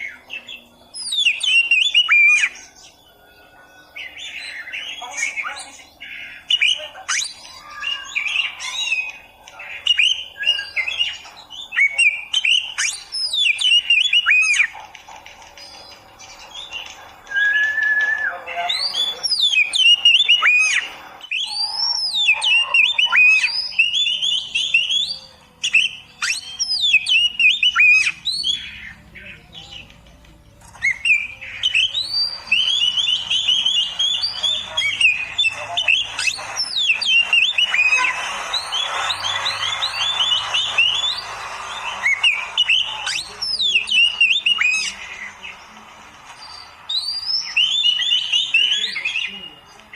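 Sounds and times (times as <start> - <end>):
bird singing whistled notes: 0.0 - 14.7, 15.8 - 30.0, 30.7 - 45.0, 46.4 - 49.7.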